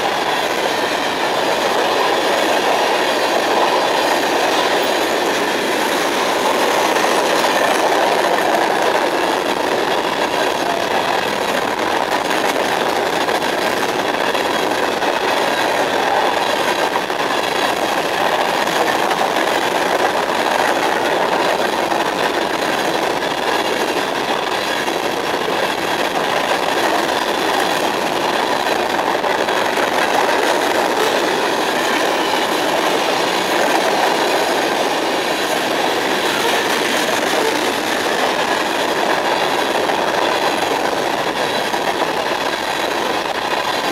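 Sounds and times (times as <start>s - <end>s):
freight train wheels on rails: 0.0s - 43.9s.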